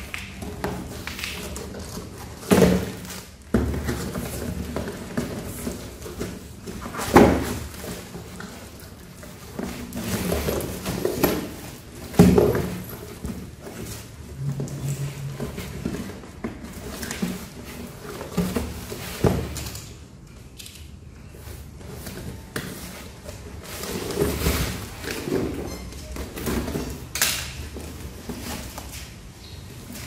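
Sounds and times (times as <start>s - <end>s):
cardboard scraping and rustling: 0.4s - 19.8s, 21.3s - 27.1s, 27.7s - 30.0s.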